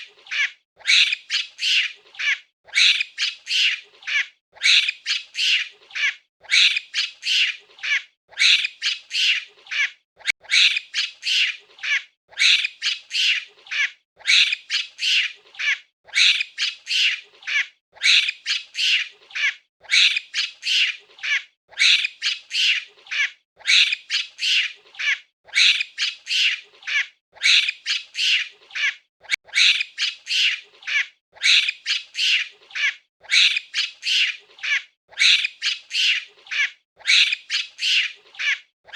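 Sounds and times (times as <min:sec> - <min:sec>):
monkey shrill calls: 0:00.3 - 0:38.6.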